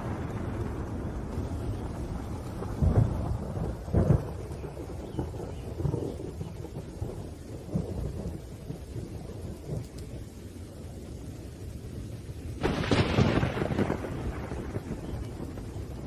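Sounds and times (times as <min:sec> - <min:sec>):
rolling thunder: 0:00.0 - 0:16.0
steady rain: 0:00.0 - 0:16.0.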